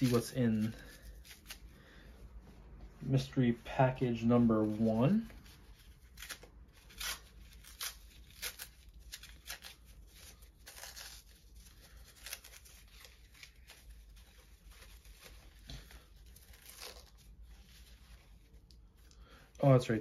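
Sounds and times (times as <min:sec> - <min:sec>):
packaging rustling and tearing: 0:00.0 - 0:01.7, 0:04.6 - 0:19.2.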